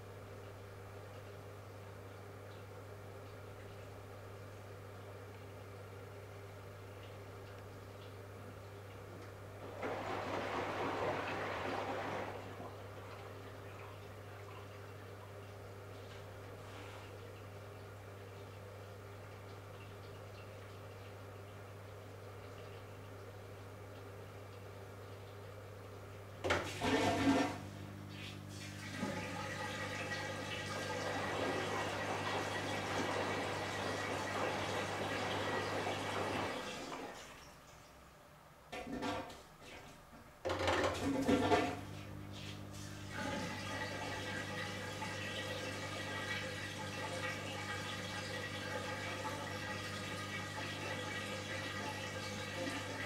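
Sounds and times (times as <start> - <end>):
washing machine water rushing: 5.8 - 38.1, 38.7 - 53.0.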